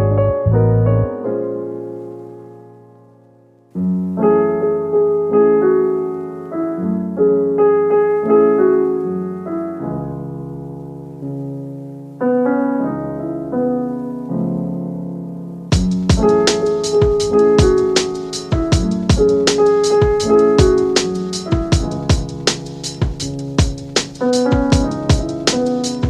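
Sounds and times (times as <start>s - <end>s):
soft electric piano: 0.0s - 26.0s.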